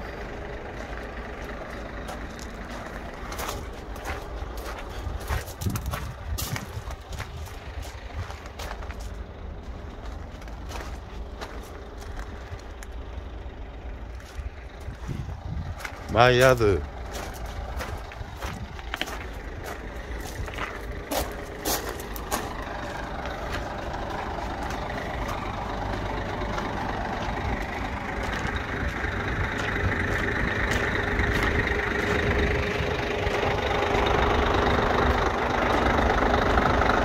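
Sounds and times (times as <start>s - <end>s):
diesel truck engine idling: 0.0s - 37.0s
footsteps on gravel: 0.1s - 13.1s, 14.0s - 36.0s.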